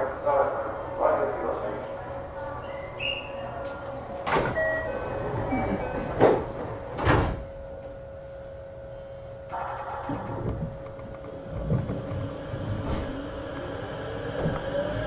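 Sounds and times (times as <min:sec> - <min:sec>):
train cabin hum: 0:00.0 - 0:15.0.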